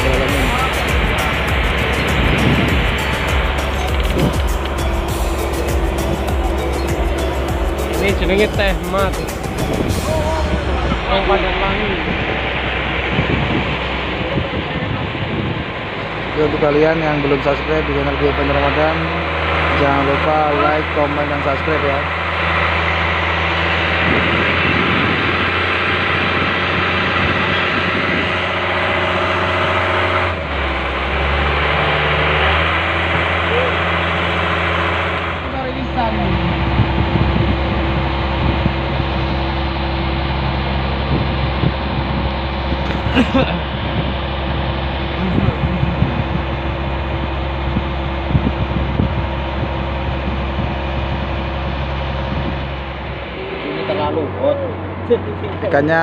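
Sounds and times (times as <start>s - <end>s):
water noise: 0.0s - 55.6s
boat engine humming: 0.0s - 56.0s
wind: 0.0s - 56.0s.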